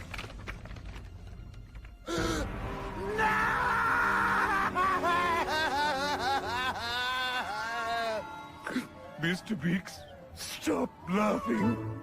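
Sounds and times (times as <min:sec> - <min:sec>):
held cartoon music: 0:01.9 - 0:12.0.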